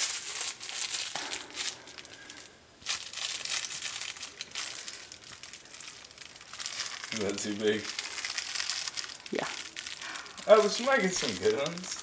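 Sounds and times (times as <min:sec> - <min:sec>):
crinkly baby toy rustling: 0:00.0 - 0:12.0.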